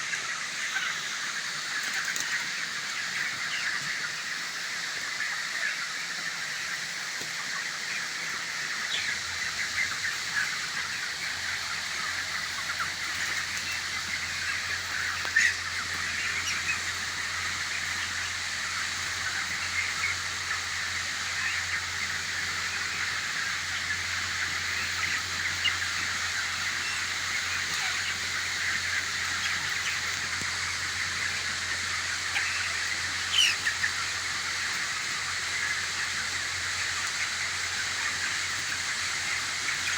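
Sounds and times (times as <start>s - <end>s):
chickens chirping and chattering: 0.0s - 39.9s.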